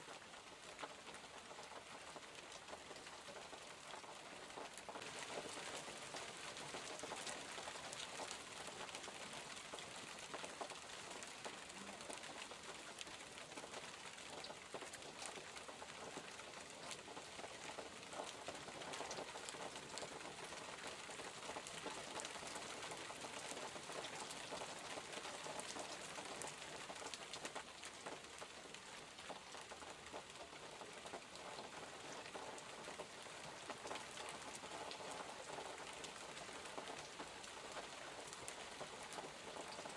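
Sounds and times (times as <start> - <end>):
raindrops ticking on surfaces: 0.0 - 39.9
steady rain: 0.0 - 39.9.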